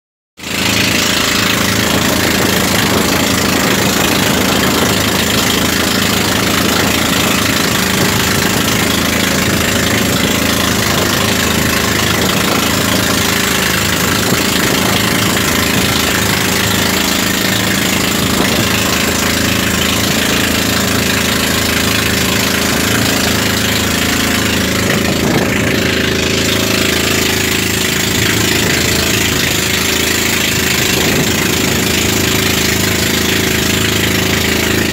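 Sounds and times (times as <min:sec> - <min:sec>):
boat engine running: 0:00.4 - 0:34.9
rushing wind: 0:00.5 - 0:34.9.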